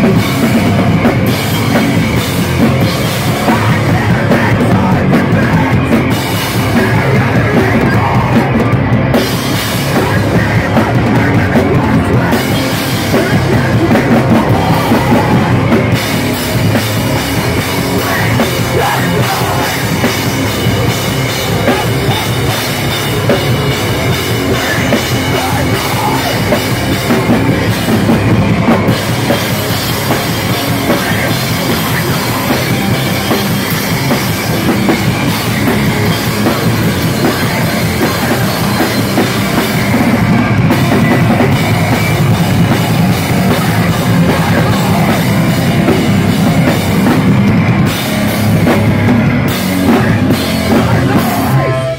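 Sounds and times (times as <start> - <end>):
distorted electric guitars and bass: 0.0 - 51.9
pounding drums: 0.0 - 51.9.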